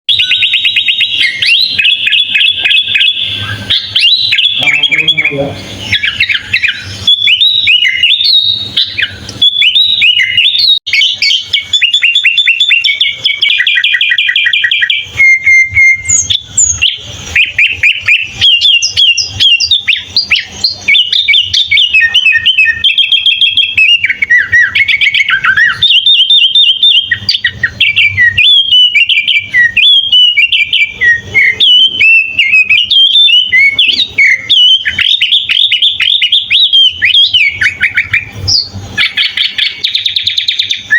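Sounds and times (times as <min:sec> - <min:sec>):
bulbul singing: 0:00.1 - 0:40.9.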